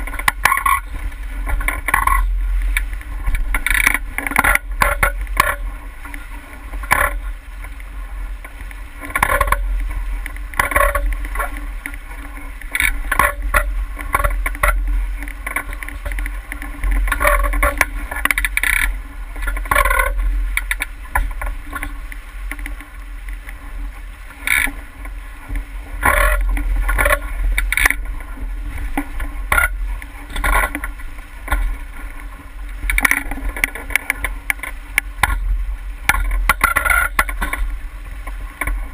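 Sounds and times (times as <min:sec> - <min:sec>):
water splashing against hull: 0:00.0 - 0:38.9
wind rumble on microphone: 0:00.0 - 0:38.9.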